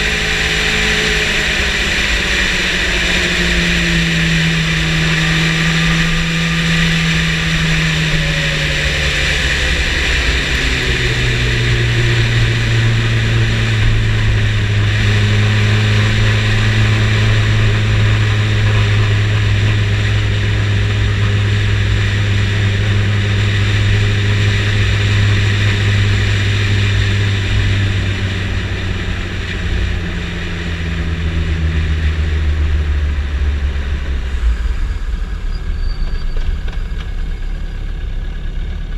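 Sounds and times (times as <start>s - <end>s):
motorcycle engine: 0.0s - 38.9s
steady rushing noise: 0.0s - 38.9s.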